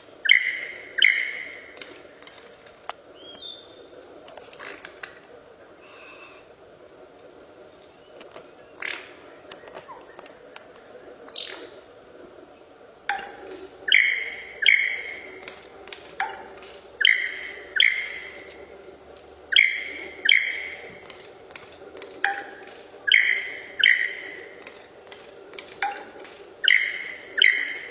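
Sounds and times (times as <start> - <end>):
bird nasal calls: 0.0 - 6.6, 7.5 - 12.0, 13.1 - 27.9.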